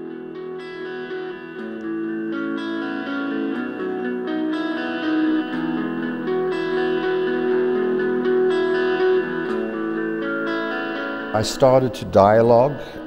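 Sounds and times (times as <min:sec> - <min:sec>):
electric guitar held notes: 0:00.0 - 0:13.0.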